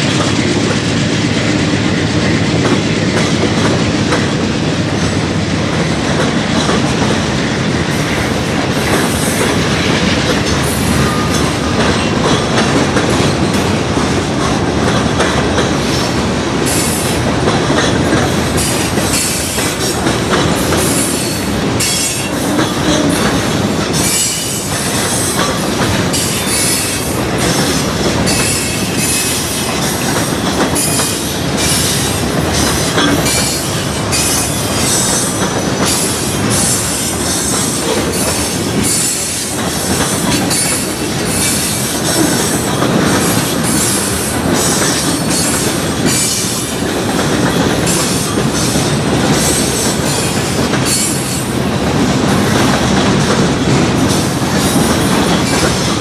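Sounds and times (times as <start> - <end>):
clickety-clack over rail joints: 0.0 - 56.0
train wheels rumbling on rails: 0.0 - 56.0.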